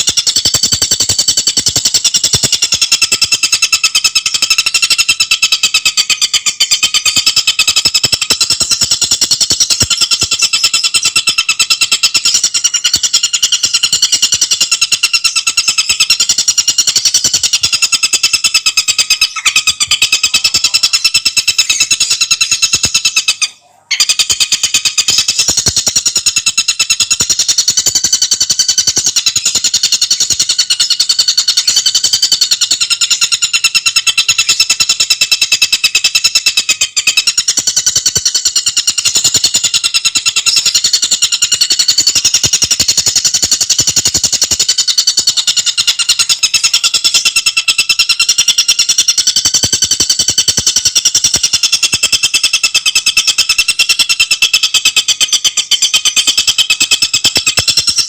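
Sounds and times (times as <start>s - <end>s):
bird singing rattling trill: 0.0s - 58.0s.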